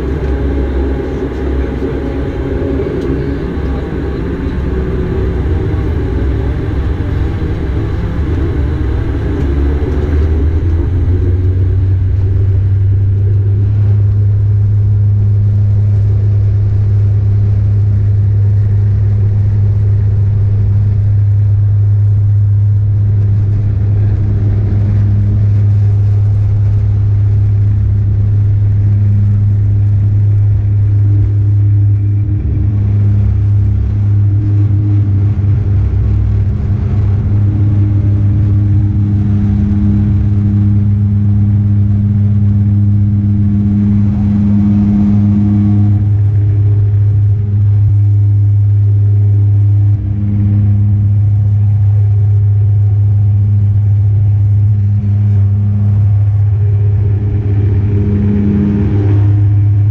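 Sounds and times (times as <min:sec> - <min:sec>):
turboprop engine drone in cabin: 0:00.0 - 0:59.9.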